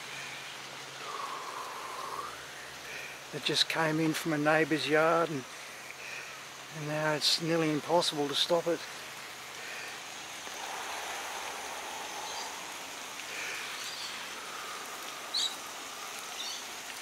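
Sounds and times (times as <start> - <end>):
water spraying from garden hose: 0.0 - 17.0.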